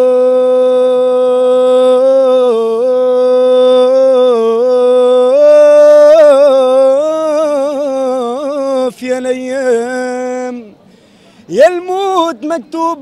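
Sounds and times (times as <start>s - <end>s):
man singing unaccompanied: 0.0s - 10.8s, 11.5s - 13.0s.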